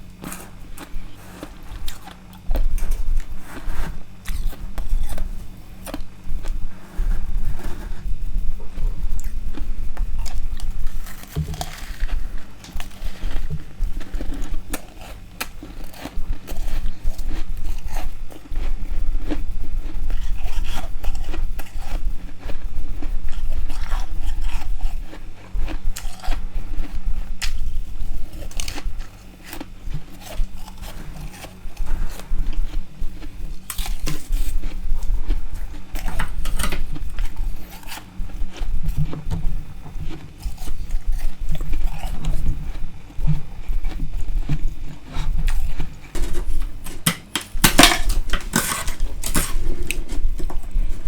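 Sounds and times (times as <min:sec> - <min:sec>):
crunching and chewing ice: 0:00.0 - 0:51.0.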